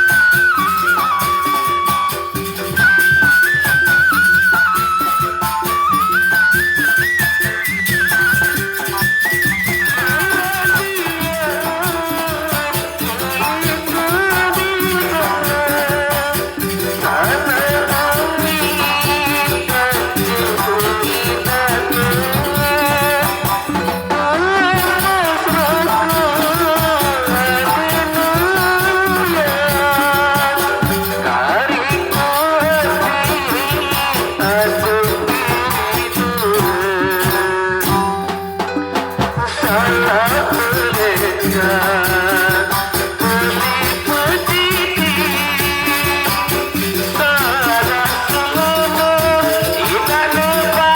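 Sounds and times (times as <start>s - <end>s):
ornamented folk melody: 0.0s - 50.9s
rattling percussion: 0.0s - 50.9s.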